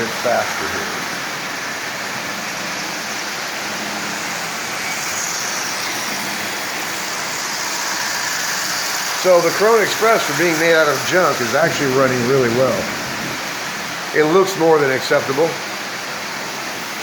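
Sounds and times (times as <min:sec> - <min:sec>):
model trains running on rails: 0:00.0 - 0:17.0.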